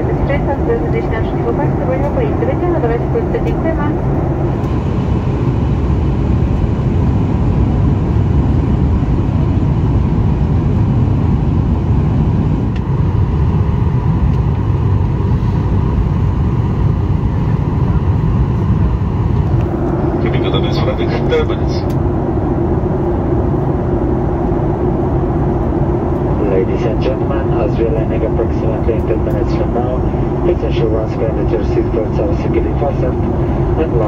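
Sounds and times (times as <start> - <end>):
airliner cabin drone: 0.0 - 34.0.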